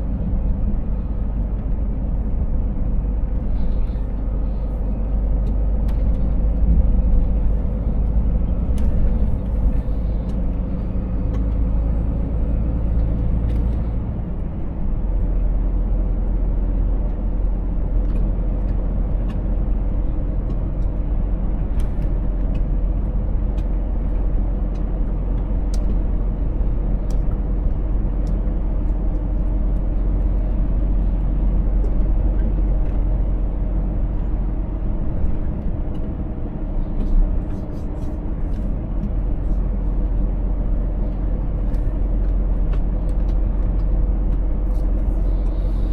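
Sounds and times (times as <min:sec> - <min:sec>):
truck engine drone: 0:00.0 - 0:45.9.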